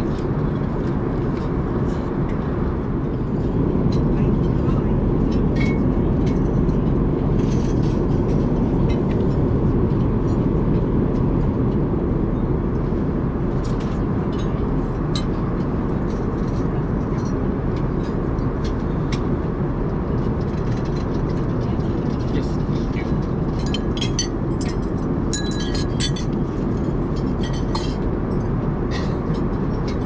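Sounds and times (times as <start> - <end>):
airplane cabin roar: 0.0 - 30.0.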